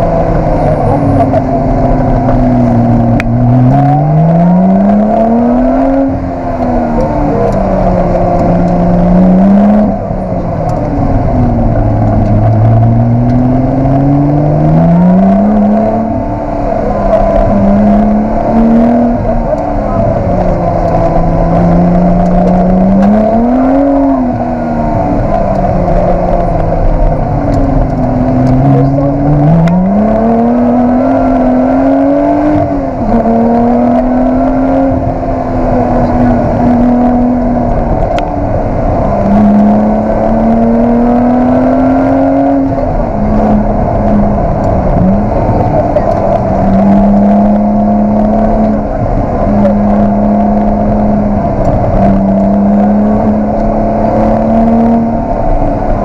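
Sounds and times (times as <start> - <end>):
car engine revving from cabin: 0.0 - 56.0.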